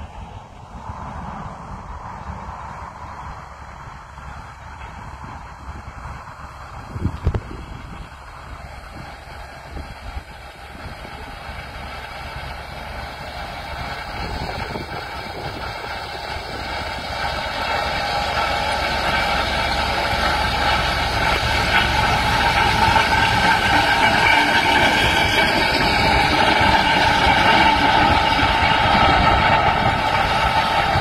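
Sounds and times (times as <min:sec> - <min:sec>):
steel rollers rolling over ground: 0:00.0 - 0:31.0
tractor engine drone: 0:00.0 - 0:31.0.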